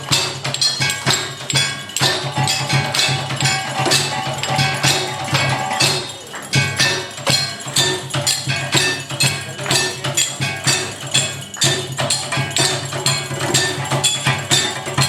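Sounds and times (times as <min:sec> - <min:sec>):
metallic percussion strikes: 0:00.0 - 0:15.0.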